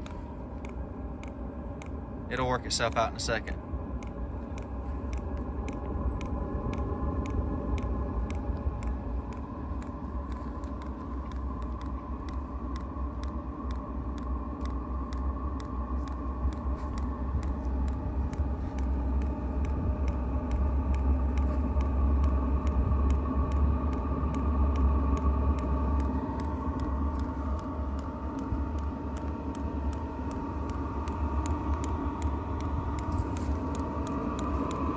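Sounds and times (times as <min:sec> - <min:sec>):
blower hum: 0:00.0 - 0:34.9
fuel pump ticking: 0:00.0 - 0:34.9
heater combustion rumble: 0:00.0 - 0:34.9.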